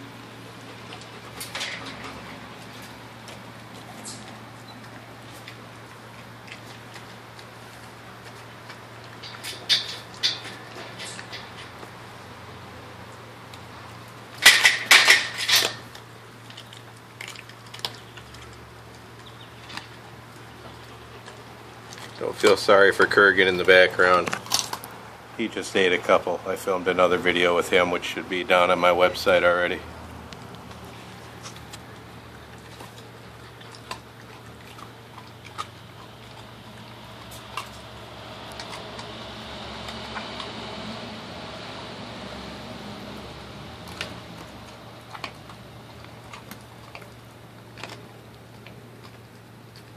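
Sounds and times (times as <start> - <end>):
dog crunching bone: 0.0 - 26.1, 26.7 - 49.9.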